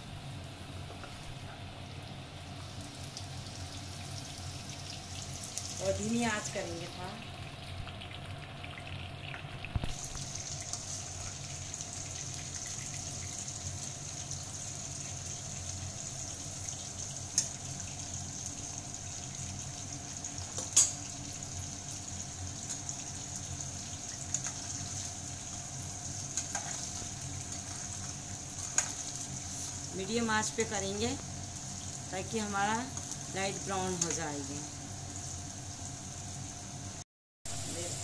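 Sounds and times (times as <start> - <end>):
corn sizzling in hot oil: 0.0 - 38.0.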